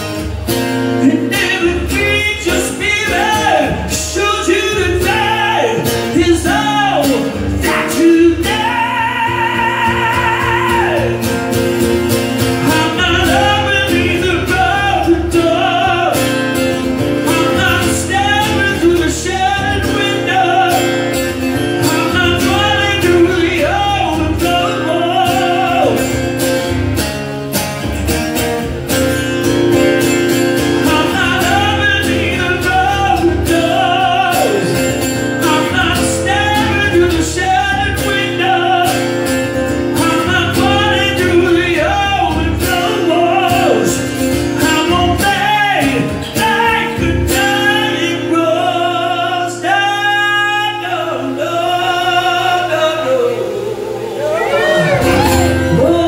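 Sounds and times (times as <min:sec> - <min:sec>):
strummed acoustic guitar: 0:00.0 - 0:56.0
man singing: 0:01.0 - 0:11.6, 0:12.2 - 0:26.5, 0:29.7 - 0:56.0.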